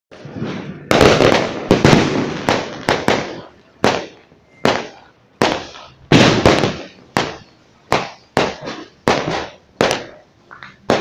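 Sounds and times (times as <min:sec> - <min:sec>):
firework pops: 0:00.1 - 0:11.0
fireworks bangs with echo: 0:00.1 - 0:11.0.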